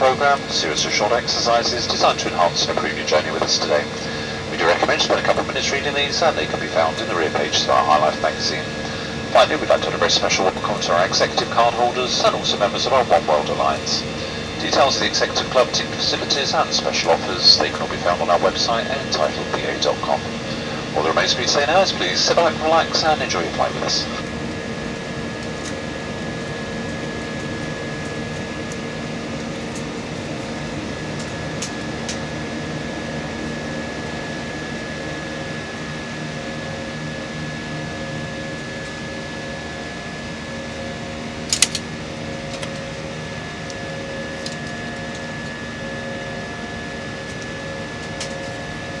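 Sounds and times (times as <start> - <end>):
airliner cabin engine drone: 0.0 - 49.0
faint steady whine: 0.0 - 49.0.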